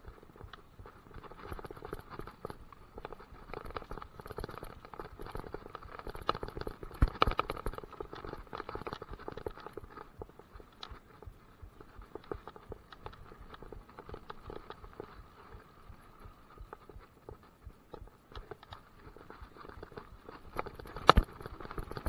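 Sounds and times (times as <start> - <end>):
mountain bike rattling on trail: 0.0 - 22.0.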